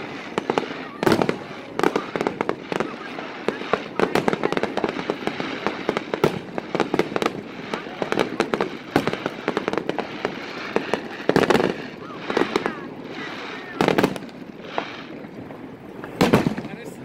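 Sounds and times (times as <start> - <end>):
fireworks bursting with bangs: 0.0 - 17.0
fireworks crackling: 0.0 - 17.0.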